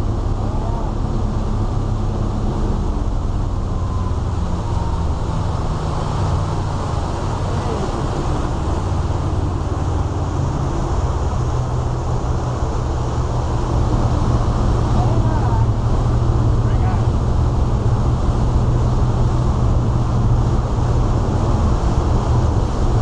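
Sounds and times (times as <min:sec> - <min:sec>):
boat engines droning: 0:00.0 - 0:23.0
wind and water rushing: 0:00.0 - 0:23.0.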